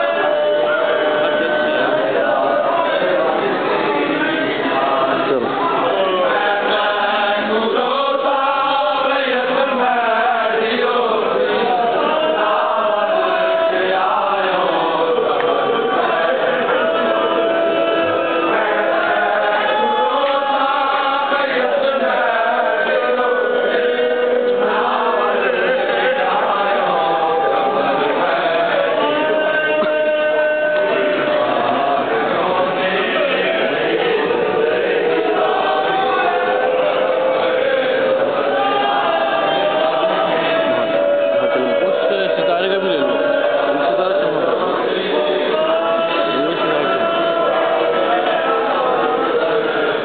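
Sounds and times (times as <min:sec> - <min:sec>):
group chanting a mourning lament: 0:00.0 - 0:50.0.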